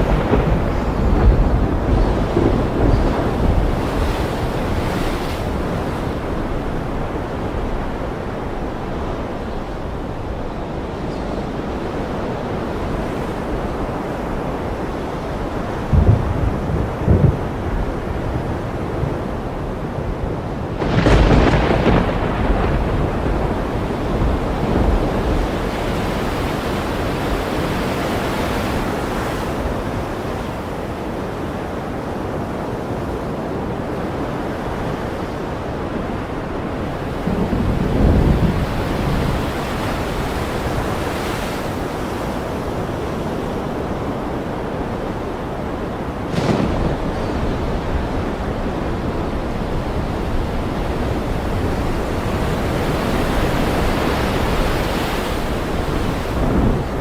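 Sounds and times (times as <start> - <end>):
ocean waves washing: 0.0 - 57.0
thunderstorm: 0.0 - 57.0.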